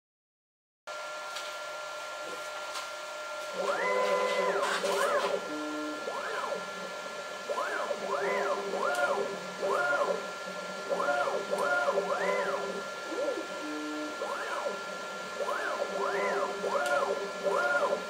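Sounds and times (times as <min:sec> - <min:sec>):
steady high hum: 0:00.9 - 0:18.0
stepper motors whining: 0:03.5 - 0:18.0.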